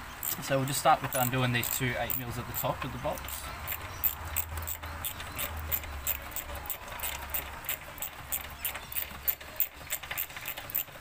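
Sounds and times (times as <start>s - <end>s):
ratchet wrench clicking: 0.2s - 11.0s.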